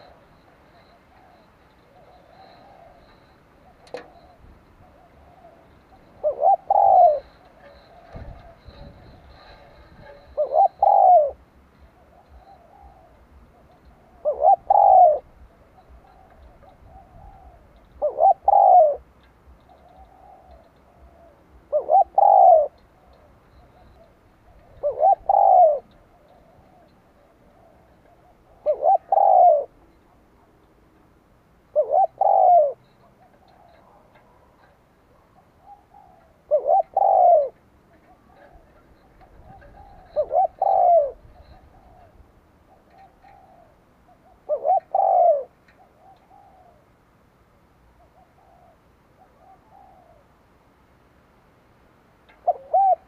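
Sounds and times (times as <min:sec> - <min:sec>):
dove cooing: 0:00.0 - 0:30.6, 0:31.6 - 0:47.0, 0:47.8 - 0:50.4, 0:52.3 - 0:53.0.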